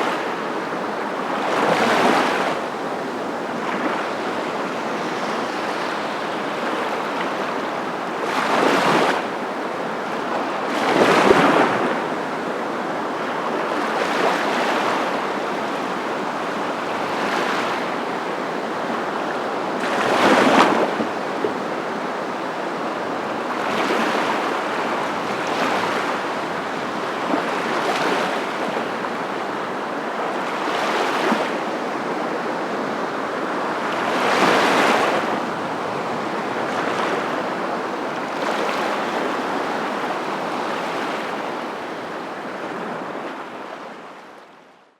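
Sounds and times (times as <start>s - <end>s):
ocean waves breaking: 0.0s - 44.4s.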